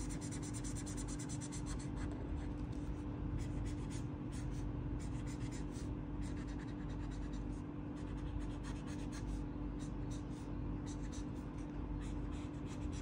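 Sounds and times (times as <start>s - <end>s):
marker rubbing across paper: 0.0s - 2.1s, 3.4s - 13.0s
steady low hum: 0.0s - 13.0s.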